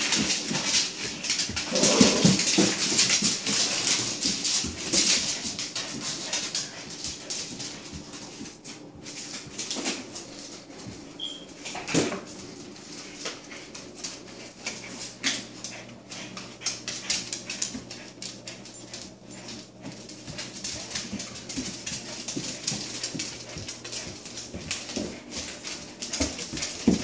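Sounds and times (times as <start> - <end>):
dogs scuffling on floor: 0.0 - 27.0.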